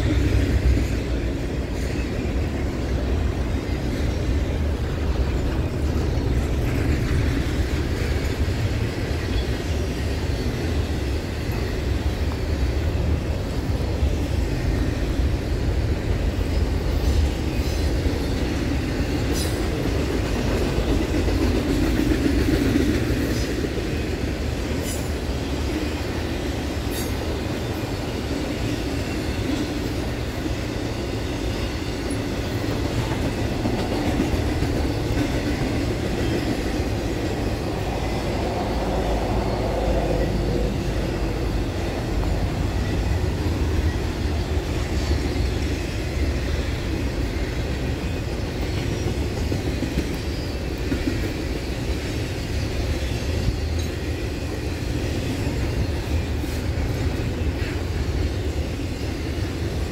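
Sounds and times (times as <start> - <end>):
freight train wheels rumbling: 0.0 - 59.9
wheels clickety-clack: 0.0 - 59.9.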